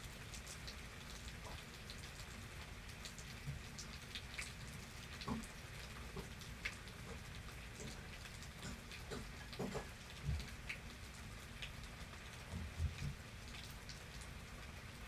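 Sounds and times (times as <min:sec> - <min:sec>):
raindrops ticking and plopping: 0:00.0 - 0:15.0
steady rain: 0:00.0 - 0:15.0.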